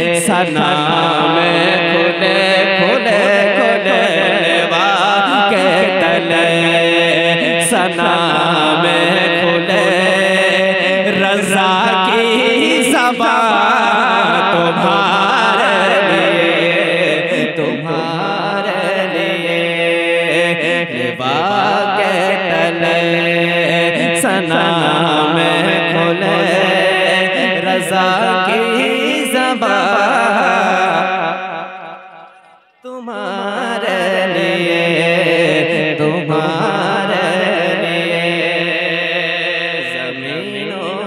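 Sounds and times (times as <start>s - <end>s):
man singing through loudspeakers: 0.0s - 41.0s.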